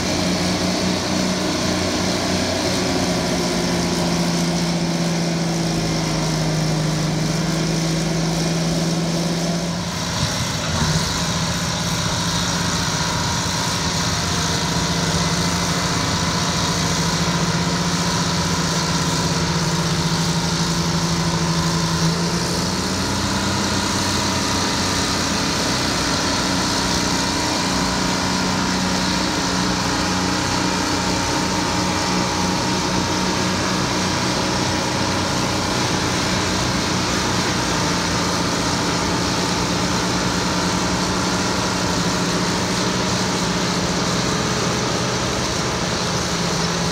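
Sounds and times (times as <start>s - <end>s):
diesel engines of bulldozer running: 0.0s - 46.9s.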